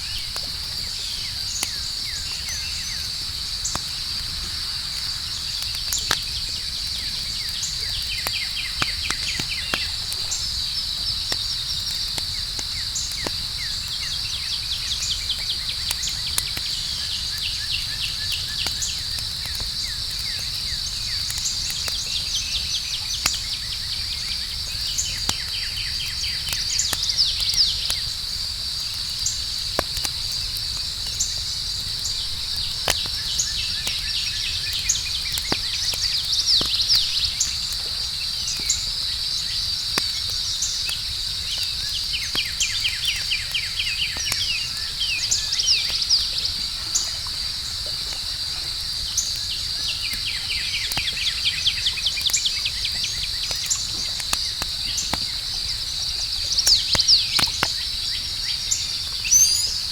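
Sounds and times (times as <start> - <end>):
campfire crackling: 0.0 - 59.9
crickets chirping: 0.0 - 59.9.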